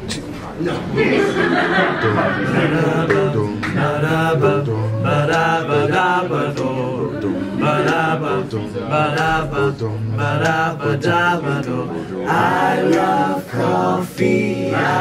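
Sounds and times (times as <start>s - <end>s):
vocal group singing close harmony: 1.0s - 15.0s.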